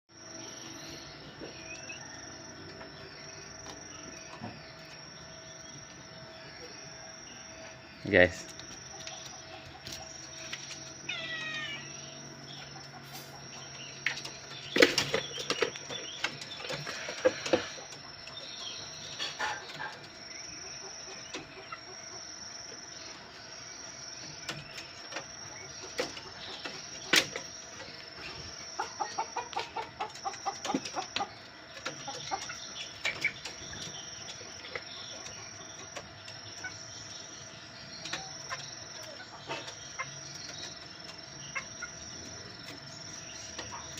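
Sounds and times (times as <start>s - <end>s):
high insect trill: 0.1s - 43.9s
chickens clucking: 0.2s - 43.9s.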